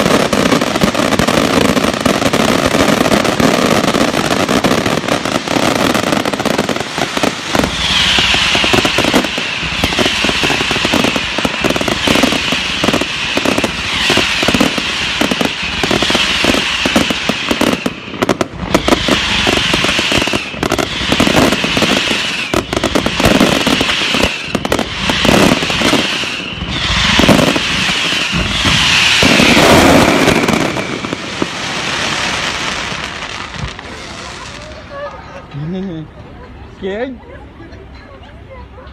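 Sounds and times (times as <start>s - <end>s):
fireworks bangs and crackling: 0.0s - 35.6s
high hiss of fireworks: 0.0s - 37.6s.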